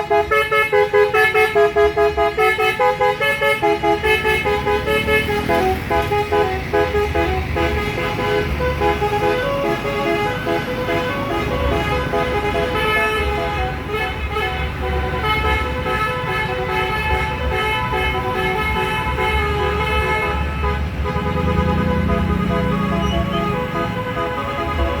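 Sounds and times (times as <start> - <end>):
bus multi-tone horn playing a tune: 0.0 - 25.0.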